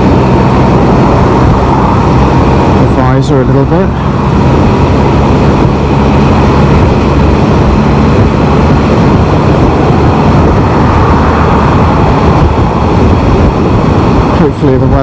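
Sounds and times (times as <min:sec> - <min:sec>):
engine drone: 0:00.0 - 0:15.0
wind rushing over microphone: 0:00.0 - 0:15.0.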